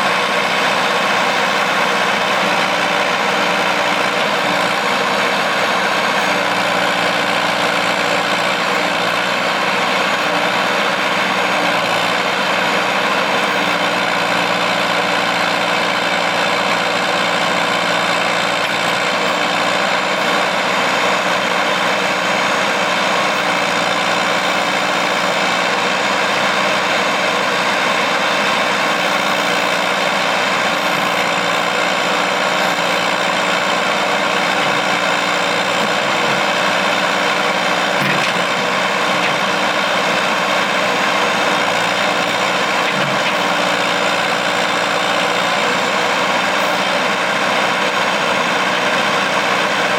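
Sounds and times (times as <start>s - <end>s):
loader engine running: 0.0s - 49.9s.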